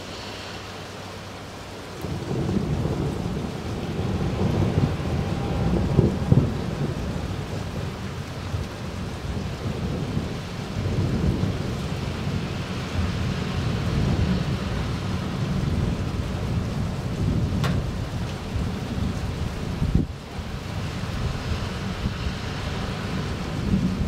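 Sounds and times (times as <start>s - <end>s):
steady rain falling: 0.0s - 24.0s
thunder rumbling: 0.0s - 24.0s.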